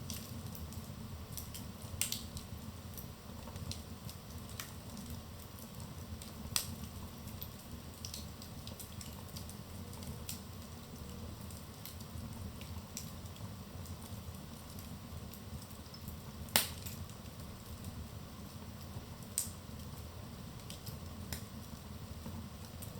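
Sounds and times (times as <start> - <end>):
fire pops: 0.0 - 10.7, 11.4 - 18.0, 18.6 - 20.0, 20.6 - 22.9
low rumble of flames: 0.0 - 22.9
wood fire crackling: 0.0 - 22.9.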